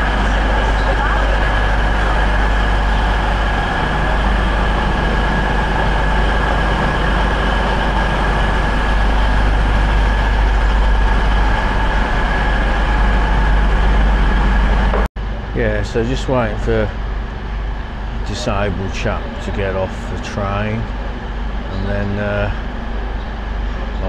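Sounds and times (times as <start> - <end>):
constant whine: 0.0 - 24.0
diesel train engines idling: 0.0 - 24.0.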